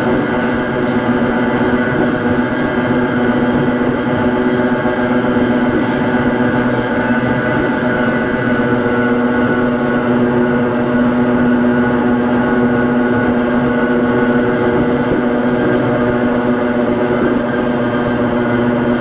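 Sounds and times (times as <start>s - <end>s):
rumble of train running gear: 0.0s - 19.0s.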